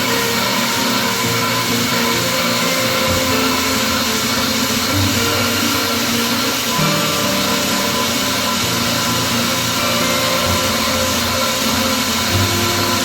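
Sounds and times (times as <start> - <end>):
power tool motor whirring: 0.0 - 13.0.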